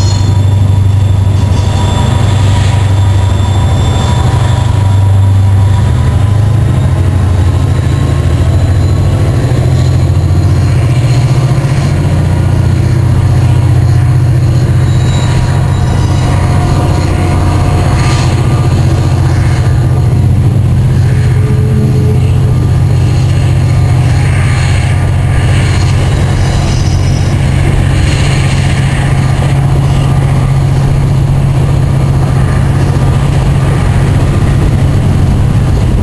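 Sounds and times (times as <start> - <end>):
faint wheel squeal: 0.0 - 20.0, 20.8 - 31.0
freight train wheels rumbling: 0.0 - 36.0.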